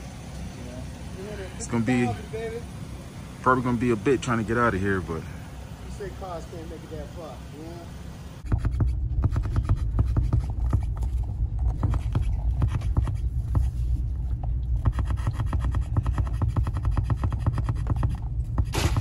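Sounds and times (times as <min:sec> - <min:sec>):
vehicle low rumble: 0:00.0 - 0:19.0.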